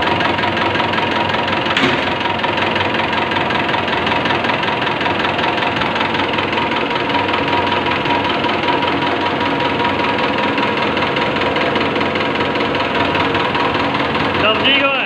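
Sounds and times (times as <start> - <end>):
fuel pump high whine: 0.0 - 15.0
fuel pump rattling: 0.1 - 15.0.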